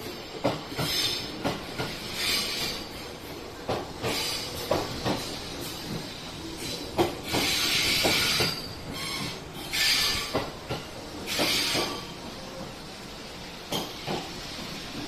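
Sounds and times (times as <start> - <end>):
train wheels clicking over rail joints: 0.0 - 12.2, 13.6 - 15.0.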